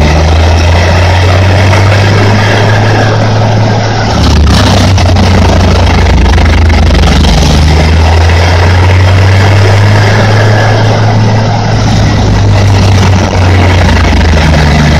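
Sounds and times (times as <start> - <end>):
grinding noise: 0.0 - 14.9
low engine drone: 0.0 - 14.9.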